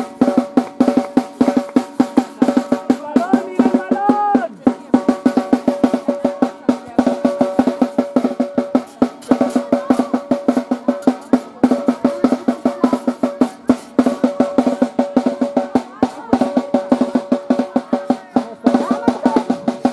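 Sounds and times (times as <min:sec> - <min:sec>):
drums beaten fast: 0:00.0 - 0:19.9.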